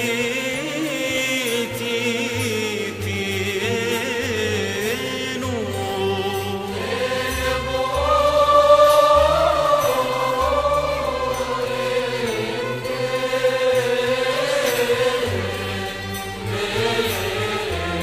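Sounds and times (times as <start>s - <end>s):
choir chanting a hymn: 0.0s - 18.0s.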